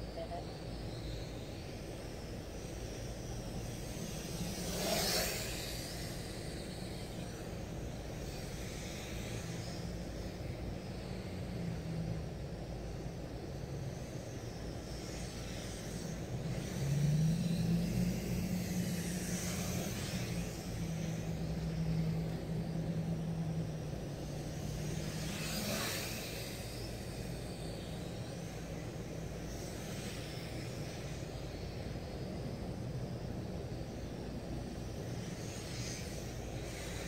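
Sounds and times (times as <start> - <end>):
drone propellers humming: 0.0 - 37.0.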